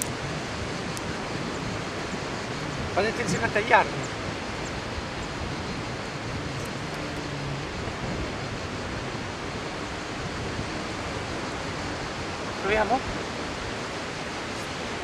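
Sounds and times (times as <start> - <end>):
sea surf: 0.0 - 15.0
wind: 0.0 - 15.0.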